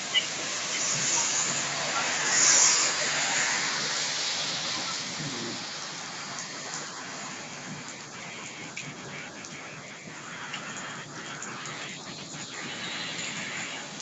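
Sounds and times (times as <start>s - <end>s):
car tyres hissing through water: 0.0s - 14.0s
heavy rain pouring: 0.0s - 14.0s.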